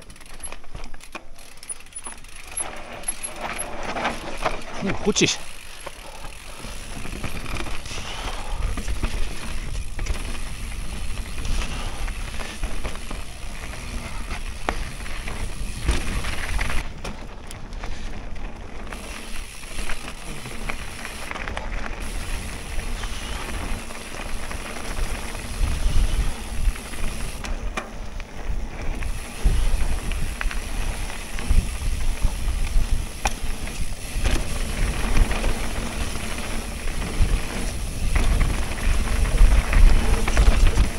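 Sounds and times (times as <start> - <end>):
bike knocking and rattling: 0.0 - 40.9
bike tyres on loose ground: 0.0 - 40.9.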